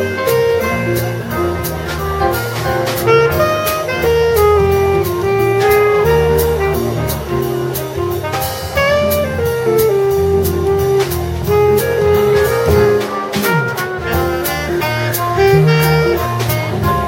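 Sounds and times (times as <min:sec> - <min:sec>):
bass: 0:00.0 - 0:17.0
drums with cymbal strokes: 0:00.0 - 0:17.0
horn melody: 0:00.0 - 0:17.0.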